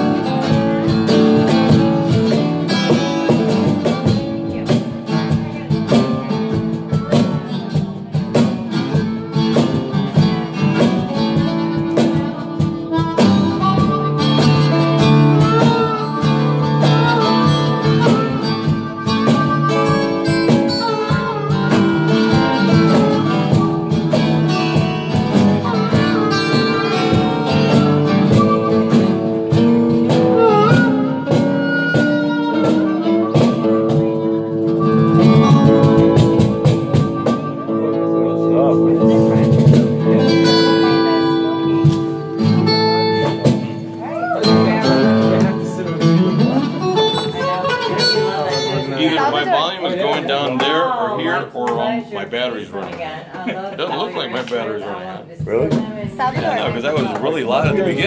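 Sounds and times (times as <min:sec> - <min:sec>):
harmonica lead line: 0:00.0 - 0:49.3
electric guitar chords: 0:00.0 - 0:50.4.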